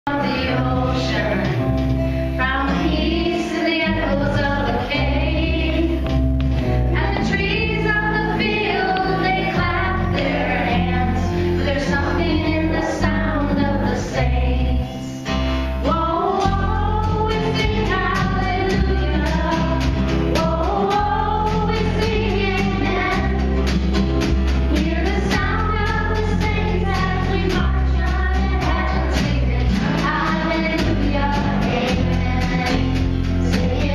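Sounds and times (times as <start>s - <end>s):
voices singing: 0.1s - 1.6s, 2.4s - 6.2s, 6.9s - 24.0s, 24.6s - 33.9s
band with bass and drums: 0.1s - 3.1s, 3.7s - 14.3s, 14.9s - 33.9s.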